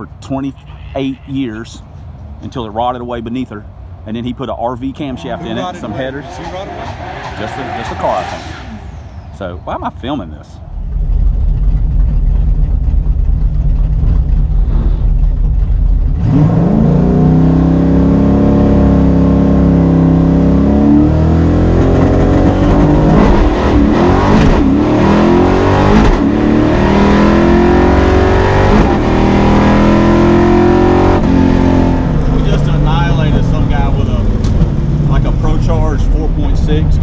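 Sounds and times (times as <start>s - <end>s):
race car engines revving: 1.6s - 37.0s.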